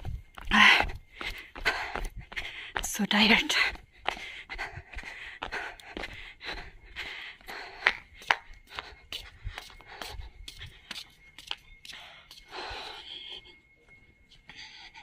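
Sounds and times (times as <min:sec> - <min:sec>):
heavy breathing: 0:00.0 - 0:02.9, 0:03.5 - 0:11.3, 0:11.9 - 0:13.8
footsteps on earth and concrete: 0:00.0 - 0:13.0.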